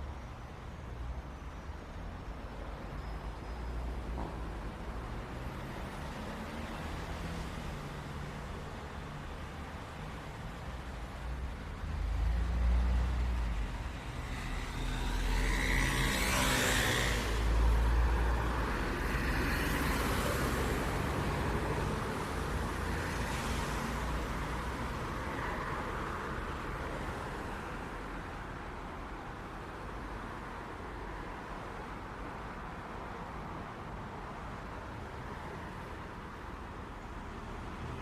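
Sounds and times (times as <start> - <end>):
vehicles passing: 4.6 - 38.0.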